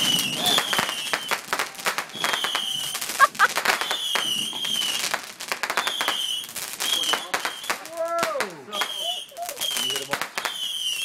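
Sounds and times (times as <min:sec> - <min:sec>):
firework whistles: 0:00.0 - 0:07.9, 0:08.7 - 0:11.0
fireworks popping and crackling: 0:00.0 - 0:11.0.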